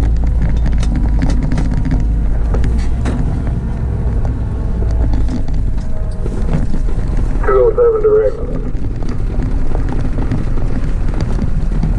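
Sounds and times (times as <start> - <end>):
fire engine diesel rumble: 0.0 - 11.9
rattles and clicks: 0.0 - 11.9.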